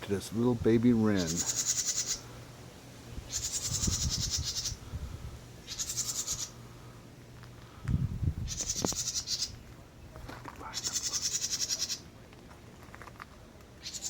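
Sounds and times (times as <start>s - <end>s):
wren buzzy trills: 0.2s - 12.2s, 13.7s - 14.0s.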